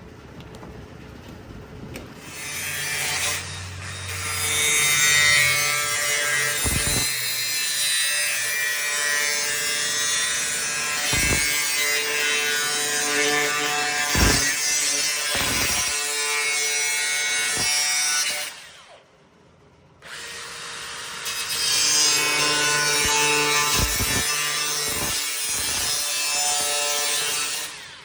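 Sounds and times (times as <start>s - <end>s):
power tool grinding sheet metal: 2.2s - 19.0s, 20.0s - 28.0s.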